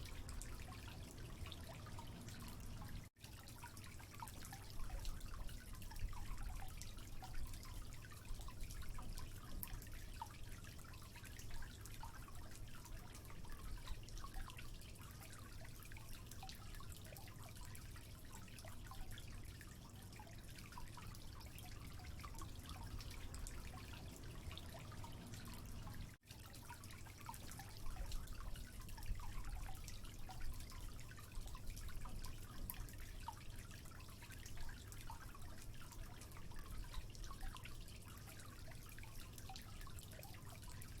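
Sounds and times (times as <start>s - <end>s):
water dripping and trickling: 0.0s - 41.0s.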